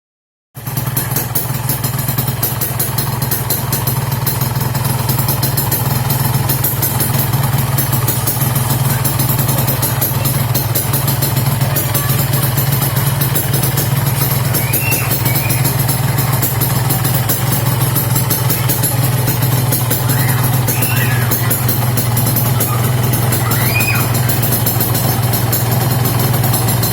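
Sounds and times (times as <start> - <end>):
two-stroke engine idling: 0.6 - 26.9.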